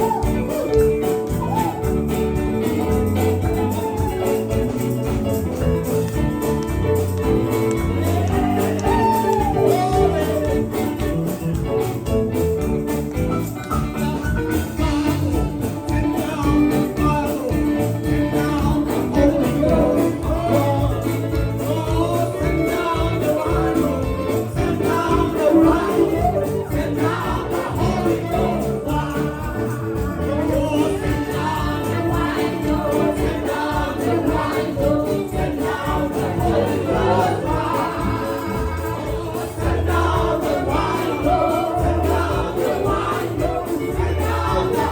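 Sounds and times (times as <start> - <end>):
congregation singing in chorus: 0.0 - 12.0, 13.4 - 44.9
instrumental accompaniment with beat: 0.0 - 44.9.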